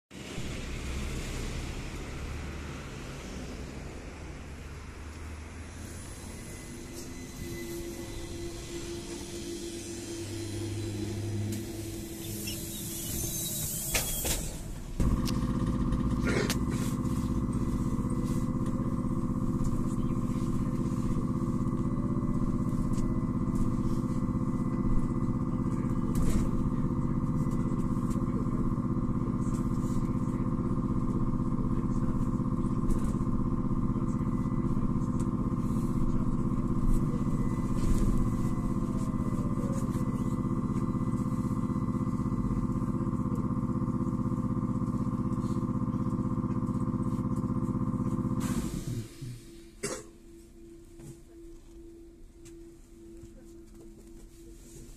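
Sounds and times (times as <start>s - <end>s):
low road rumble: 0.1s - 50.6s
trolleybus hum: 0.1s - 54.9s.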